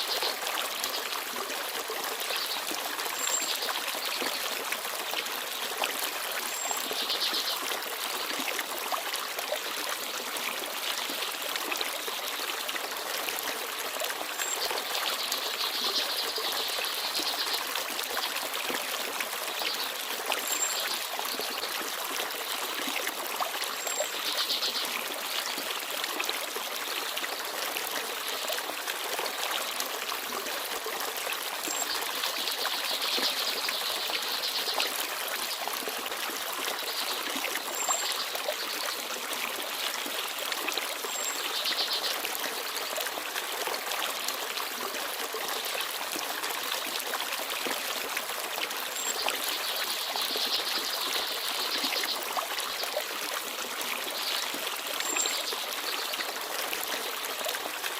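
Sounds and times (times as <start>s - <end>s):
stream babbling: 0.0s - 57.9s.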